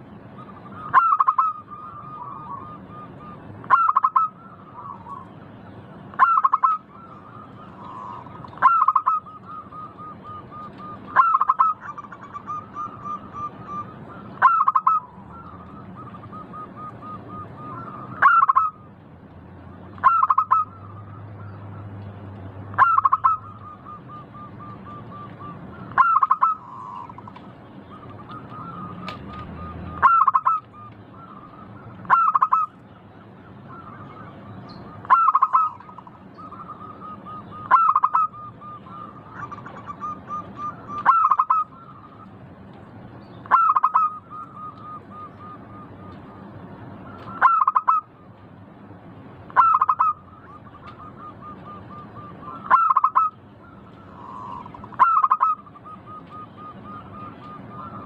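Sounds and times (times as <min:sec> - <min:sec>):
dove cooing song: 0:00.0 - 0:42.4, 0:43.4 - 0:48.3, 0:49.5 - 0:58.0.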